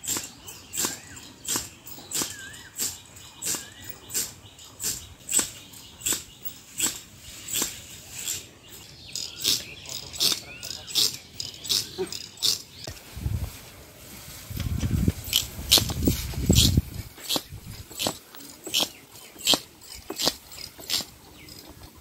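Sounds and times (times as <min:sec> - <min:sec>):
crop sprayer rhythmic hiss: 0:00.0 - 0:22.0.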